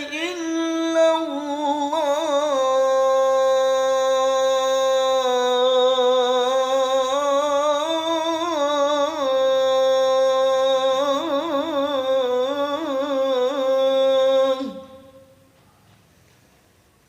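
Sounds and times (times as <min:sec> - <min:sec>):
man chanting call to prayer: 0:00.0 - 0:15.5.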